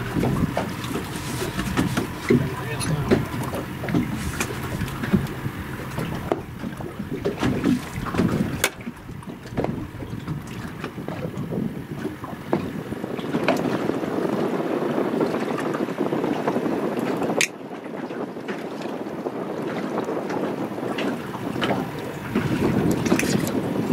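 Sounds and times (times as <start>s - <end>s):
water sloshing against hull: 0.0s - 23.9s
wind buffeting microphone: 0.0s - 23.9s.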